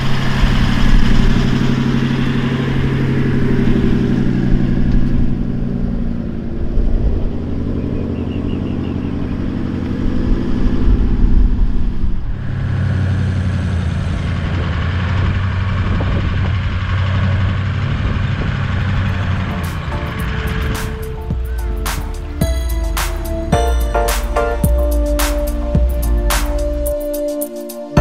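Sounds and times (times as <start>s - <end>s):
car engine running while driving: 0.0s - 27.0s.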